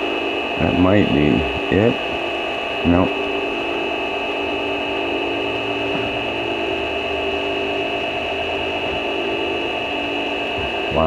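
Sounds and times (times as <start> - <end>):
deeper hum: 0.0 - 11.0
mill spindle humming with high whine: 0.0 - 11.0.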